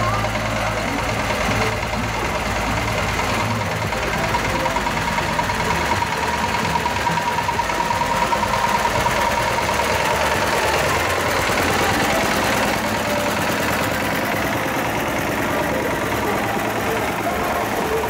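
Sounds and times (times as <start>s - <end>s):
tractor engine throbbing: 0.0s - 18.0s.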